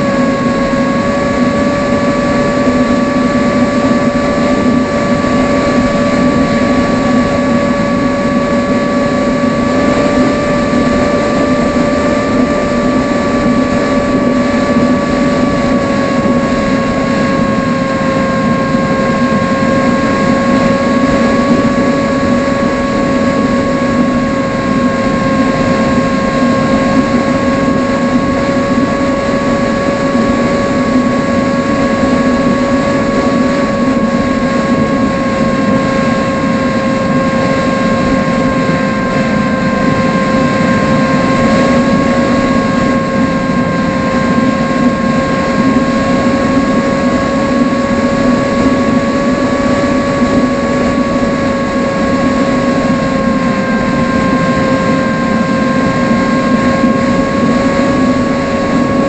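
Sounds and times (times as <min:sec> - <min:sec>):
electric motor and propeller whining: 0:00.0 - 0:59.0
wind rushing over microphone: 0:00.0 - 0:59.0.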